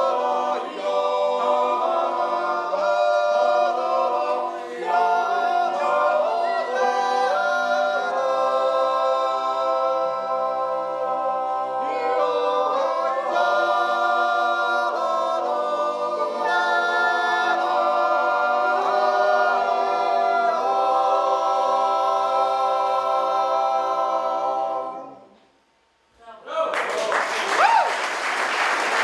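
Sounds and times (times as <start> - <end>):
men's choir yodeling in harmony: 0.0 - 25.4.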